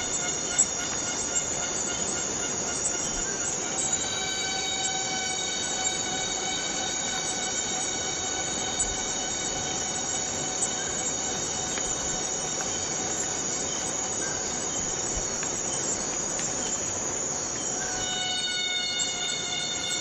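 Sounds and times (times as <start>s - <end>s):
cicadas singing in chorus: 0.0s - 20.0s.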